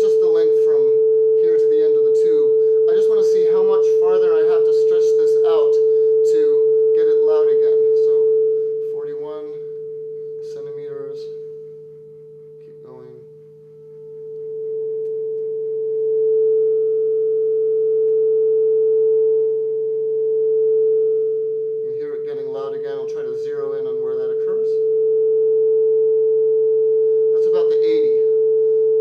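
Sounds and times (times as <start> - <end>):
steady sine tone from loudspeaker: 0.0 - 29.0.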